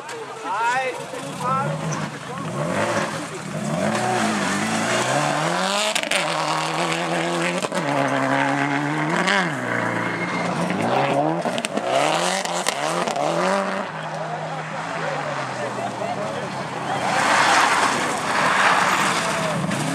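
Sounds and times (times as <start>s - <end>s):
rally car engine revving: 0.9s - 19.9s.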